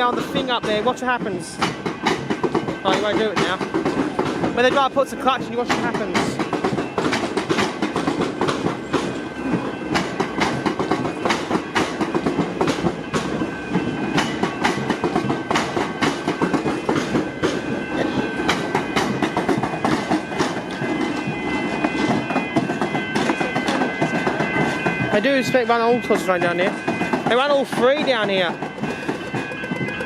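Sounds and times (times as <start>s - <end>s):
train rumble: 0.0s - 30.0s
train wheels clacking over rail joints: 0.0s - 30.0s.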